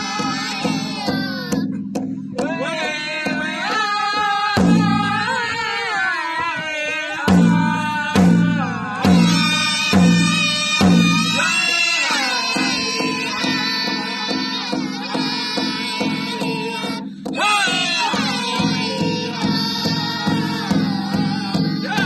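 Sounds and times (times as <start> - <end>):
big hand drum beats: 0.0 - 22.0
group singing in high voices: 0.0 - 22.0.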